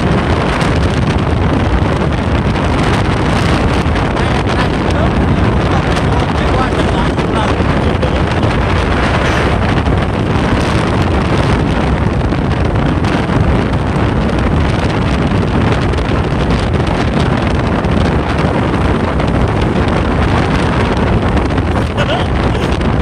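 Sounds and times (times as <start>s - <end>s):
vehicle road and engine noise: 0.0s - 23.0s
wind rushing over microphone: 0.0s - 23.0s.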